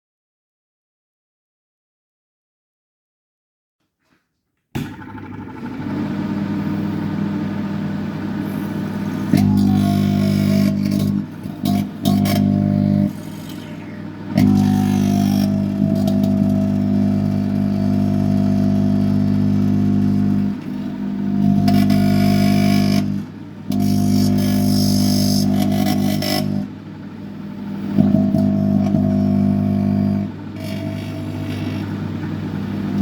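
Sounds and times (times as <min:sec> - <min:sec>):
microwave oven humming and buzzing: 0:04.8 - 0:33.0.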